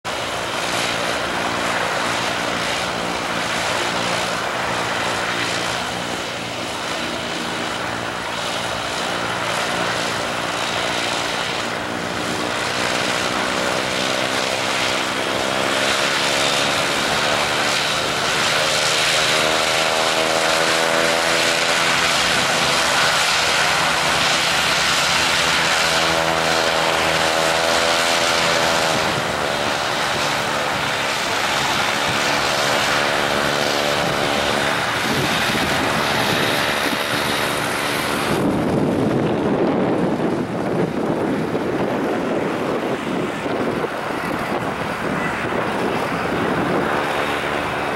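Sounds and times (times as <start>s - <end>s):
propeller engine drone: 0.0s - 47.9s.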